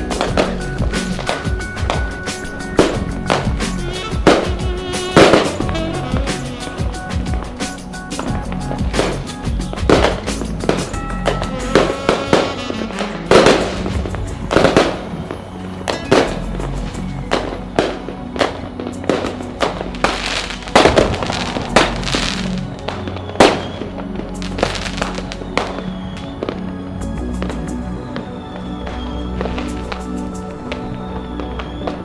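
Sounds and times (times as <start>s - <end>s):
fireworks bangs: 0.0s - 32.0s
fireworks crackling: 0.0s - 32.0s
music: 0.0s - 32.0s.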